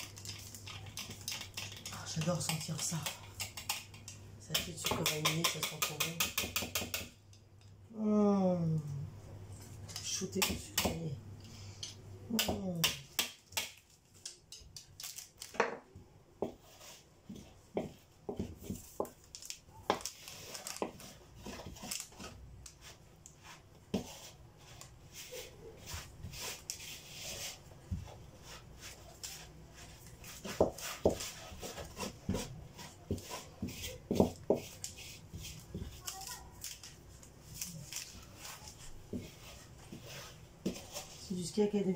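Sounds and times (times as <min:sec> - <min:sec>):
wooden spoon stirring batter: 0:00.0 - 0:07.8, 0:11.9 - 0:41.9.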